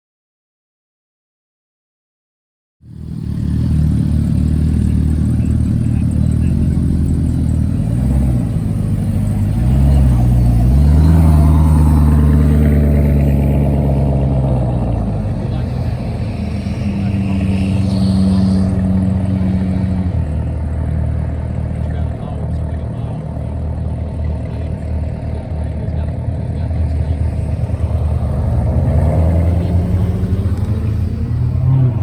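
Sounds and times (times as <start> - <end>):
car engine revving: 2.9 - 32.0.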